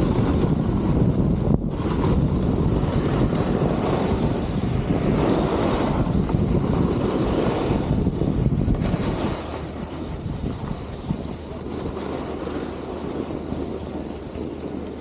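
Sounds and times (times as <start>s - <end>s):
snowboard scraping over snow: 0.0s - 15.0s
wind rushing over microphone: 0.0s - 15.0s.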